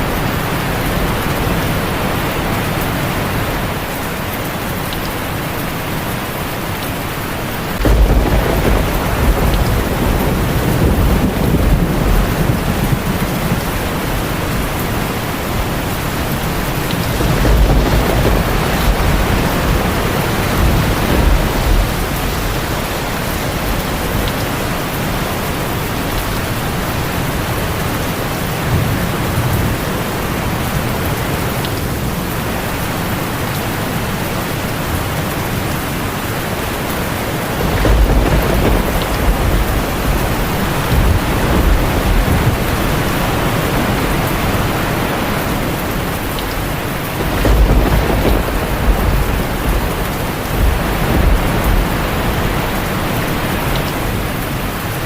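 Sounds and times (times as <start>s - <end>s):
heavy rain on a tin roof: 0.0s - 55.0s
low thunder rumbling: 7.6s - 54.9s.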